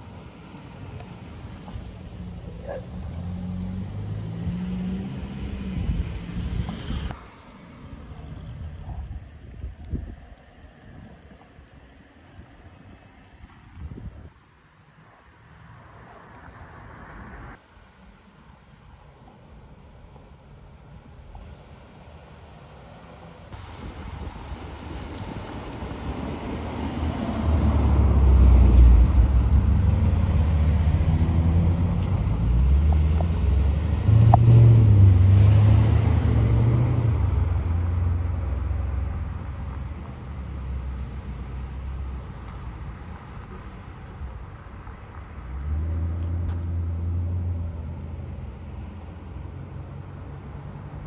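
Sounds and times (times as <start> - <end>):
cars passing over speed humps: 0.0 - 17.7, 21.9 - 51.0.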